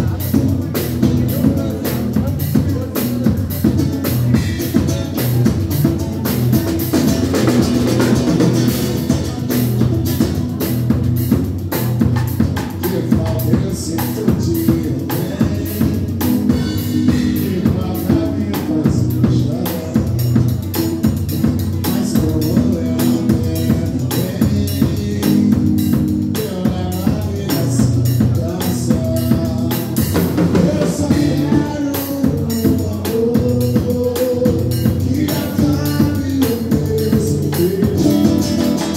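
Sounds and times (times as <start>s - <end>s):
acoustic guitar: 0.0s - 38.9s
drum kit beat: 0.0s - 38.9s.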